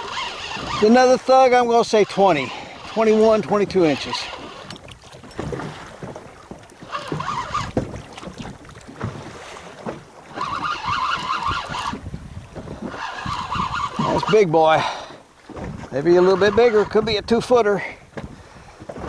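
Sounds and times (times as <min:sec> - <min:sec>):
wind gusting across microphone: 0:00.0 - 0:19.0.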